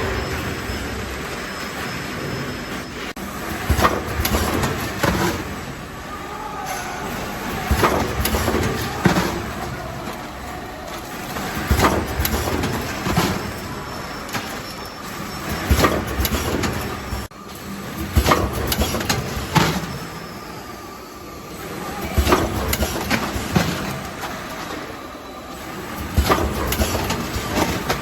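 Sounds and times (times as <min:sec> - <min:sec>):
machine clacks and knocks: 0:00.0 - 0:05.8, 0:06.7 - 0:10.2, 0:10.9 - 0:17.3, 0:17.9 - 0:20.1, 0:22.0 - 0:24.7, 0:25.9 - 0:28.0
packing machine humming: 0:00.0 - 0:28.0.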